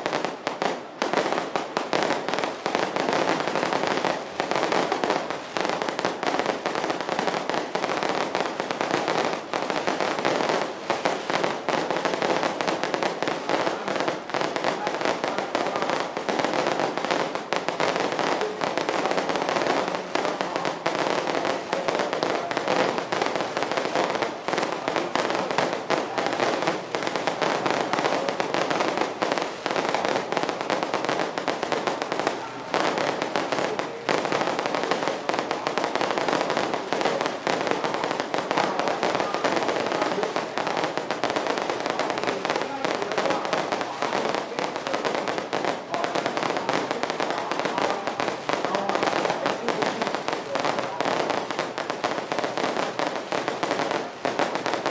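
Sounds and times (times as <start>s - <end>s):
firecrackers and fireworks banging: 0.0s - 54.9s.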